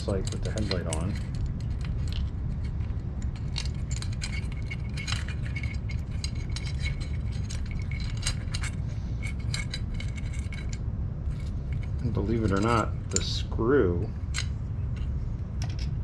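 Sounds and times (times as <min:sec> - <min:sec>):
light metallic clinks and rattles: 0:00.0 - 0:13.4, 0:14.0 - 0:16.0
steady low hum: 0:00.0 - 0:16.0.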